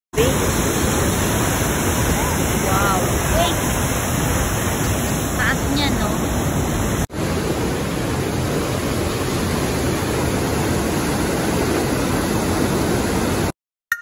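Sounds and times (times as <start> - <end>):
waterfall rushing: 0.2 - 13.5.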